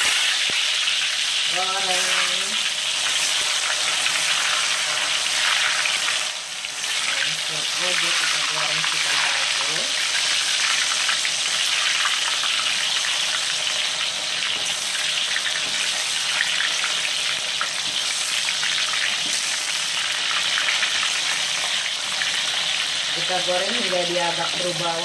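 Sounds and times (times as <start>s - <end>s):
potato slices sizzling in oil: 0.0s - 25.0s.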